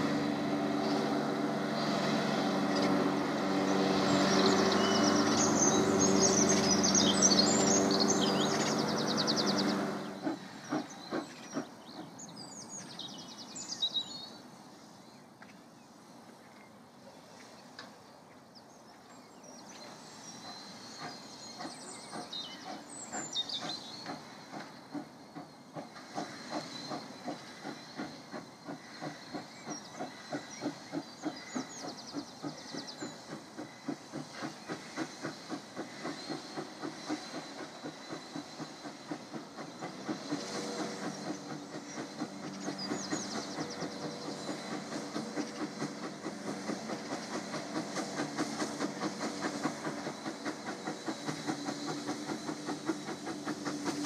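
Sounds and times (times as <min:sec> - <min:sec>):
steam hissing: 0:00.0 - 0:14.8, 0:19.8 - 0:54.0
steam locomotive chuffing: 0:00.0 - 0:15.2, 0:19.4 - 0:54.0
birds chirping: 0:00.5 - 0:14.5, 0:18.3 - 0:54.0.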